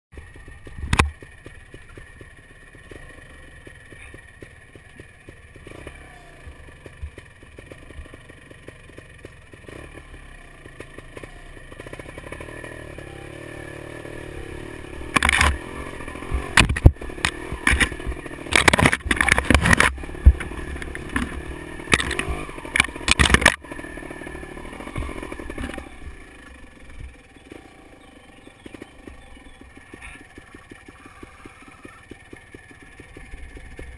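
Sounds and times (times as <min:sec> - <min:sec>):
motorcycle engine under load: 0:00.1 - 0:33.9
motorcycle knocks and clatter: 0:00.2 - 0:12.8, 0:13.9 - 0:27.7, 0:28.6 - 0:33.9.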